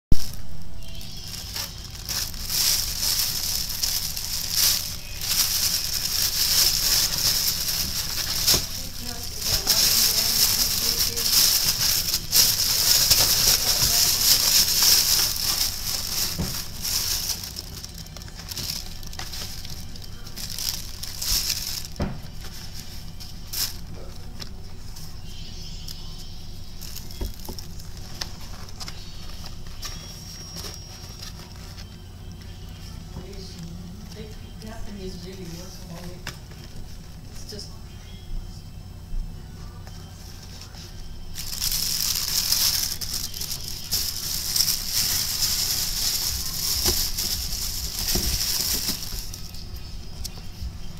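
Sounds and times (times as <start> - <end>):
paper packaging crinkling: 0.1 - 37.6, 39.8 - 50.9.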